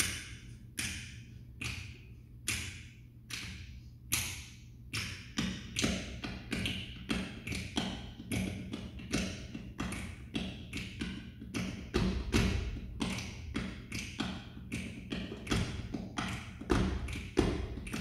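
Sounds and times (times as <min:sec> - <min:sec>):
percussion hand strikes: 0:00.0 - 0:18.0.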